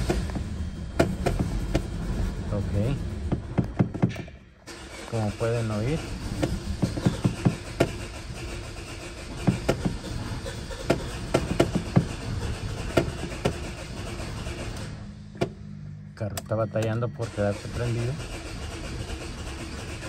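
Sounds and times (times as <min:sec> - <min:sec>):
car engine running roughly: 0:00.0 - 0:20.0.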